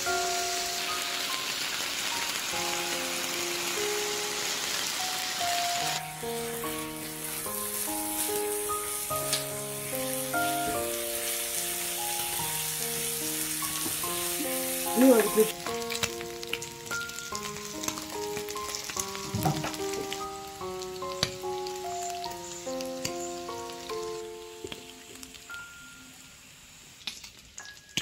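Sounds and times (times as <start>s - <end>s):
background music: 0.0s - 26.0s
meat sizzling in oil: 0.0s - 28.0s.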